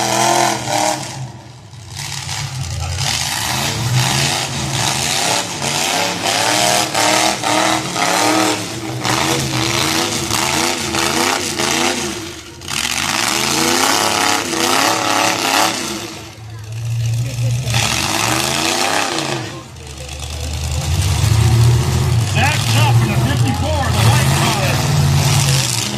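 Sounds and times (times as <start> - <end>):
car engines revving hard: 0.0 - 25.9.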